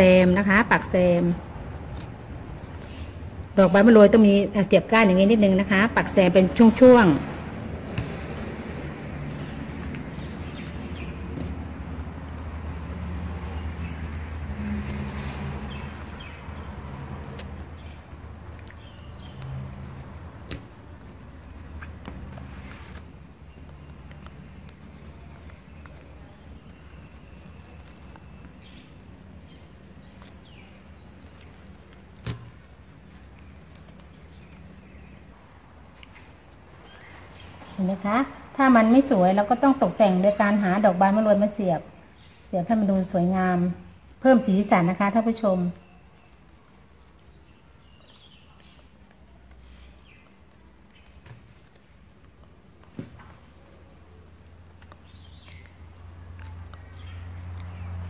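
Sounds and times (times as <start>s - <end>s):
rustling of flowers and leaves: 0.0s - 58.0s.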